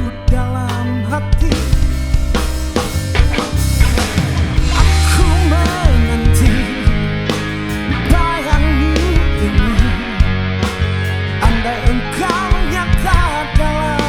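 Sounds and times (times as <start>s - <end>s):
bending lead guitar melody: 0.0s - 14.0s
rock band playing live: 0.0s - 14.0s.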